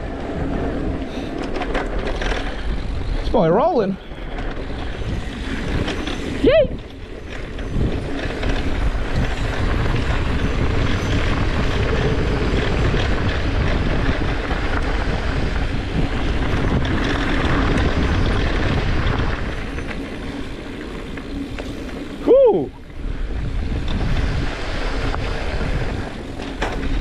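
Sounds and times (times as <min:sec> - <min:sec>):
bike rattling: 0:00.0 - 0:27.0
tyres rumbling on dirt: 0:00.0 - 0:27.0
wind rush over microphone: 0:00.0 - 0:27.0.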